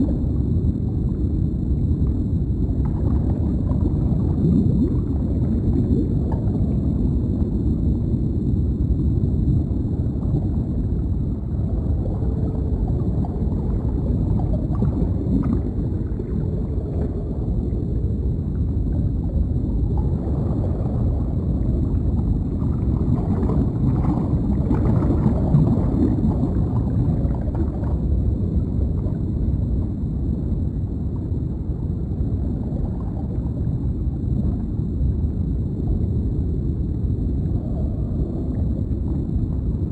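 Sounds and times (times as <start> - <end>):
faint bubbling: 0.0 - 39.9
low underwater rumble: 0.0 - 39.9.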